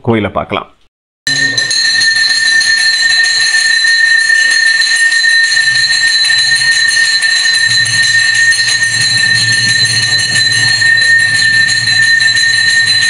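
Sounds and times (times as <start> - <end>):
temple bell ringing rapidly: 1.3 - 13.0.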